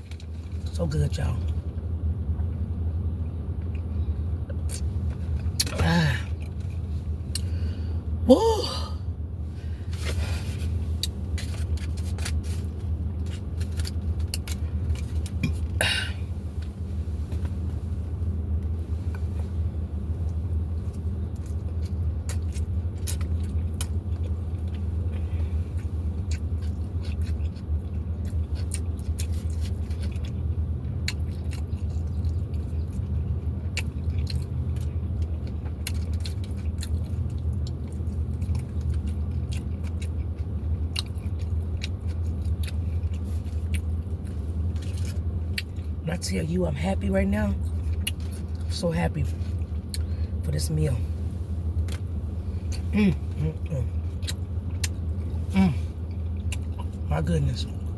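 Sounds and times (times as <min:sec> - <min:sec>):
chewing and crunching food: 0:00.0 - 0:08.0, 0:09.7 - 0:57.9
low rumbling hum: 0:00.0 - 0:57.9.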